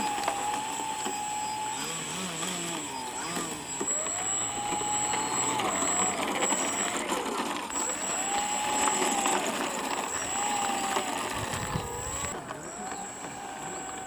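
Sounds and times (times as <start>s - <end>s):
model plane motor whine: 0.0s - 14.0s.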